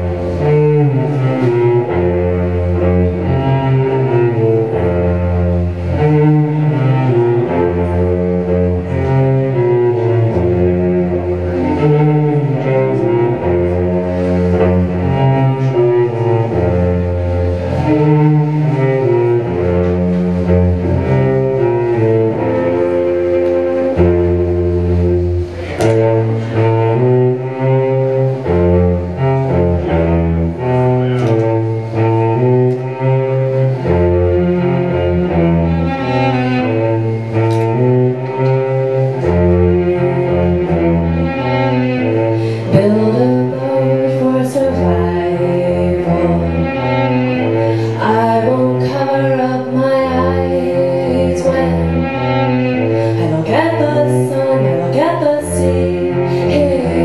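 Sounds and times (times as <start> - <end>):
solo cello: 0.0 - 57.0.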